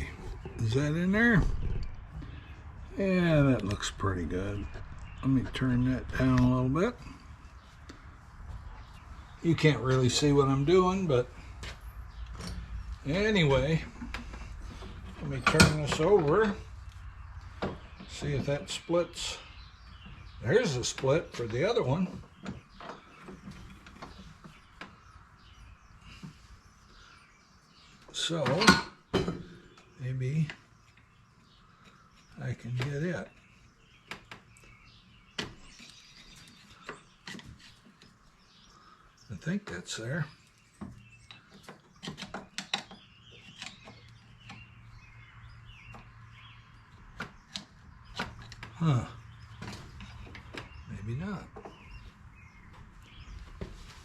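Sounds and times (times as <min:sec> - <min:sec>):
faint bird chirps: 0:08.7 - 0:54.0.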